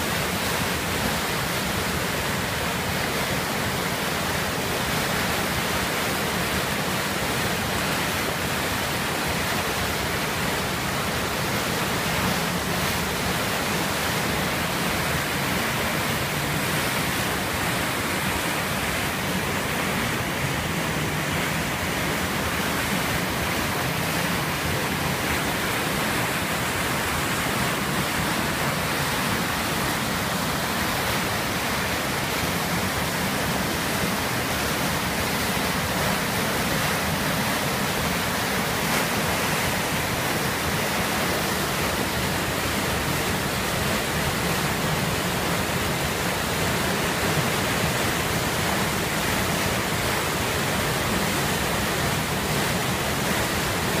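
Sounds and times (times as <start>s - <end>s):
water rushing and churning: 0.0s - 54.0s.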